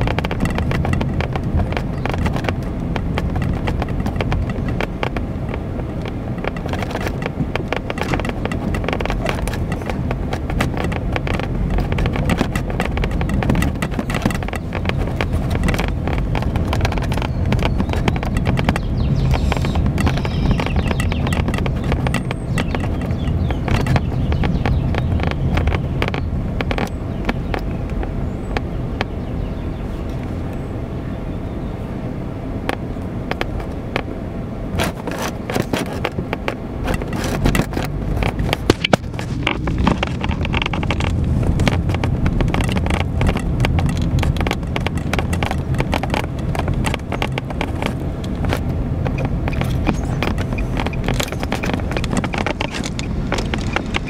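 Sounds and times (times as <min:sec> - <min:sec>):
clicks and knocks: 0:00.0 - 0:29.2, 0:32.6 - 0:34.1, 0:34.8 - 0:54.0
car engine and road rumble: 0:00.0 - 0:54.0.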